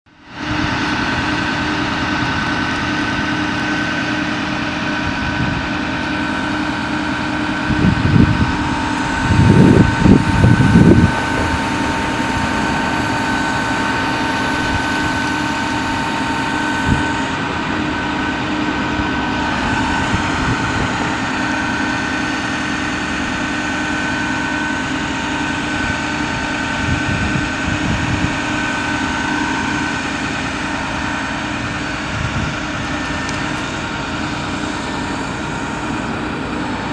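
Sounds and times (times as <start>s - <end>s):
diesel engine running with whine: 0.0s - 36.9s
low rumbles: 0.4s - 36.9s.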